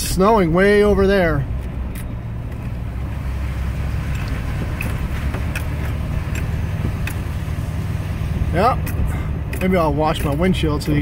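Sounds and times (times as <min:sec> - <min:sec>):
engine and tyre drone: 0:00.0 - 0:11.0.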